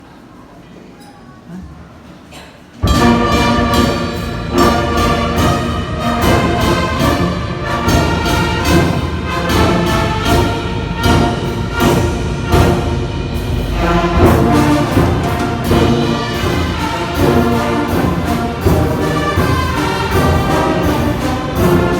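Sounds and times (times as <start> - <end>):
brass band playing hymn-like tune: 2.8 - 21.9
drum beats: 2.8 - 21.9.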